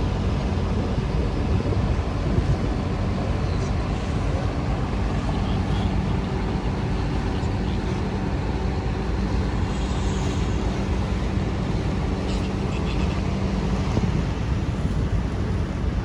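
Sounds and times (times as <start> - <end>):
broad rushing noise: 0.0 - 16.0
ferry engine humming: 0.0 - 16.0.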